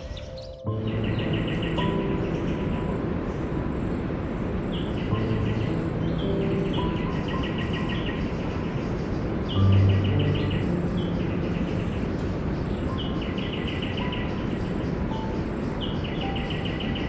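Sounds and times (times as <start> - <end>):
fast pulsed chirping call: 0.0 - 17.0
steady wash of noise: 0.7 - 17.0.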